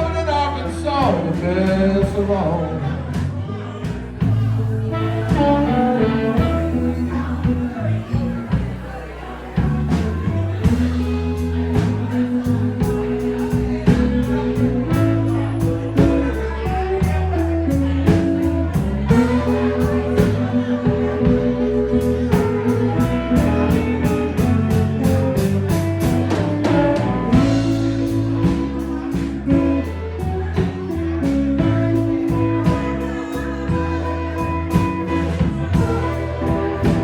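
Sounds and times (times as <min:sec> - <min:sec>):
blues band playing: 0:00.0 - 0:37.0
guitar: 0:00.0 - 0:37.0
drum kit beat: 0:03.2 - 0:37.0.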